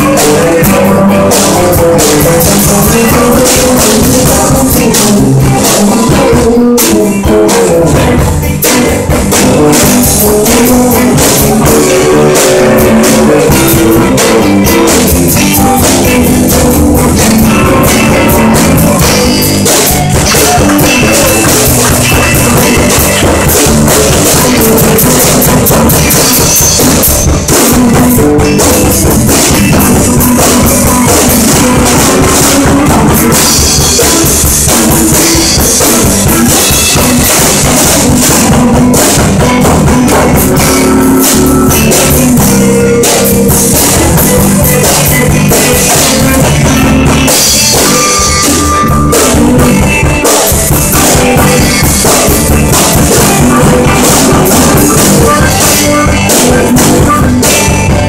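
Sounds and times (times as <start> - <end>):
drum kit with bass drum: 0.0 - 58.0
electric guitar: 0.0 - 58.0
live rock band: 0.0 - 58.0.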